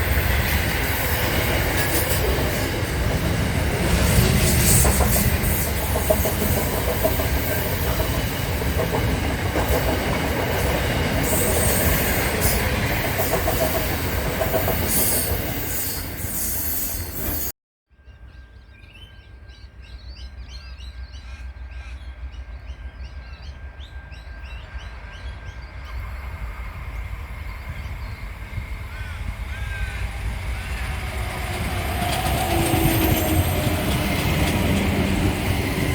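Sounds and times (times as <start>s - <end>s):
train rolling with wheel clatter: 0.0s - 17.5s, 18.2s - 35.9s.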